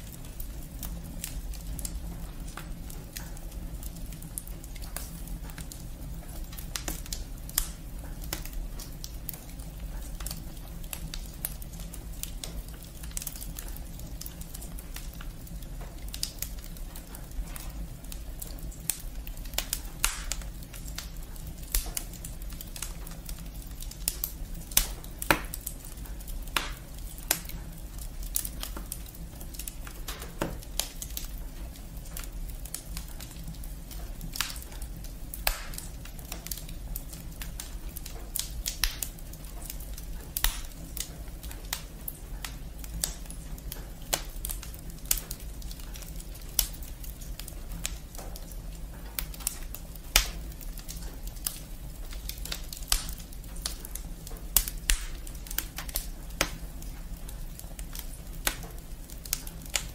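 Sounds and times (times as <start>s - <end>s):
steady low background noise: 0.0s - 59.9s
wood fire crackling and popping: 0.0s - 59.9s.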